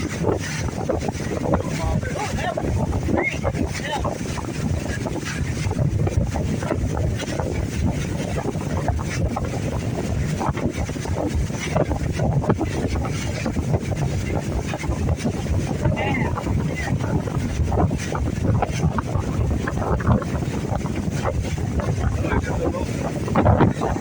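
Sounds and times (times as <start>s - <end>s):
boat running on water: 0.0s - 24.0s
wind buffeting microphone: 0.0s - 24.0s.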